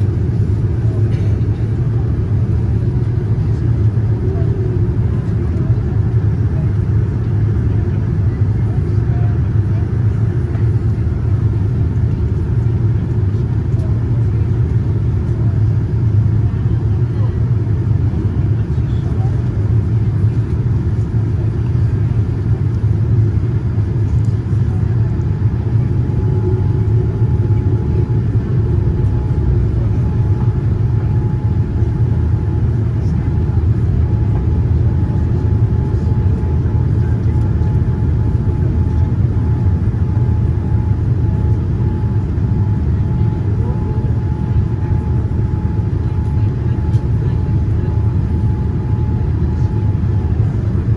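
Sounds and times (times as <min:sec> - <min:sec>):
airliner engine rumble in cabin: 0:00.0 - 0:50.9.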